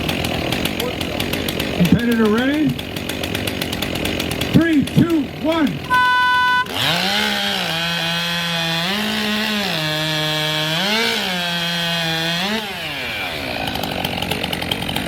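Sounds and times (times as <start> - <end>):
chainsaw cutting through log: 0.0 - 15.0.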